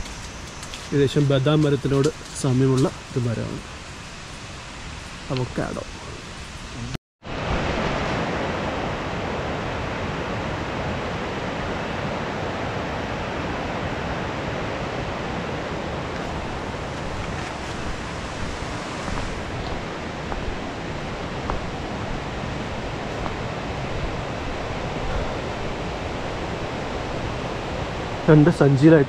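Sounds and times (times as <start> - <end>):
stream rushing: 0.0 - 29.0.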